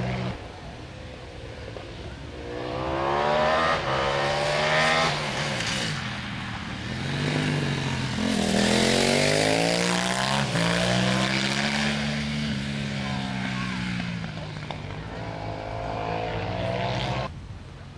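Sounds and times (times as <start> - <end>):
motorcycle engine accelerating hard: 2.3 - 17.3.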